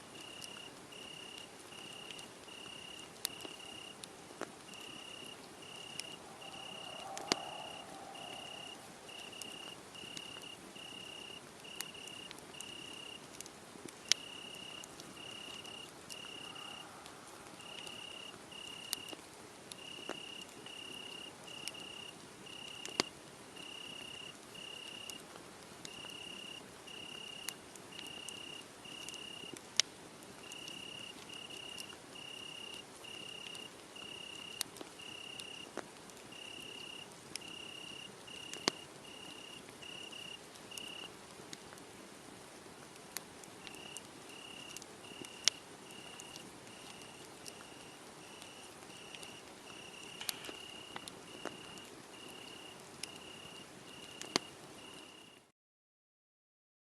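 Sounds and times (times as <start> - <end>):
wood fire crackling: 0.0 - 55.4
crickets chirping: 0.1 - 4.0, 4.6 - 13.3, 14.0 - 19.2, 19.8 - 25.2, 25.9 - 29.6, 30.4 - 41.1, 43.6 - 55.5.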